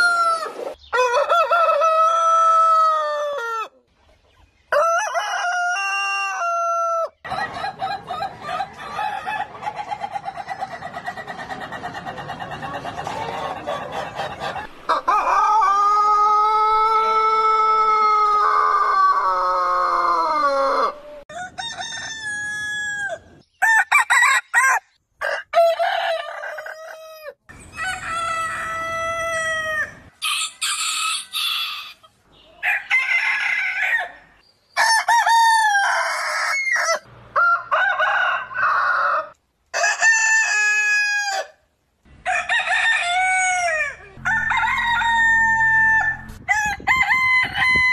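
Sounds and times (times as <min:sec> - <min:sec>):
roosters crowing: 0:00.0 - 0:03.8, 0:04.7 - 0:47.9.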